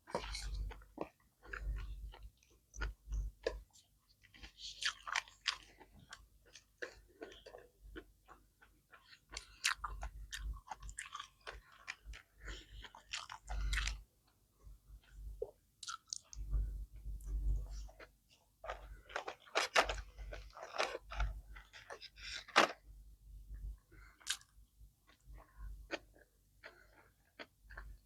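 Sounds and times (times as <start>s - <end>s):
person chewing with mouth clicks: 0.0s - 14.0s, 15.0s - 22.6s, 24.1s - 28.0s.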